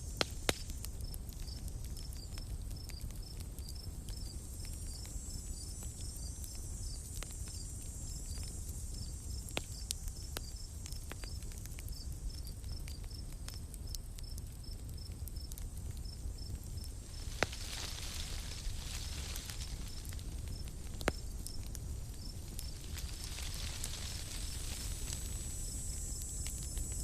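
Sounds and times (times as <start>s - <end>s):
campfire crackling and popping: 0.0s - 27.0s
cricket chirping: 0.0s - 27.0s
insects hissing: 0.0s - 27.0s.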